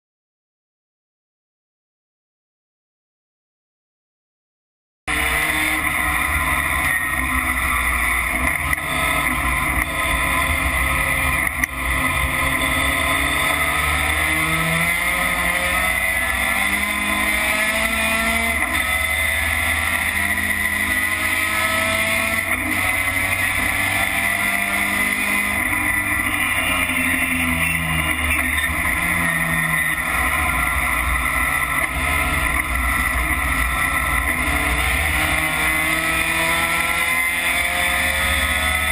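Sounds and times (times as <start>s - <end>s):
truck engine revving: 5.1s - 38.9s.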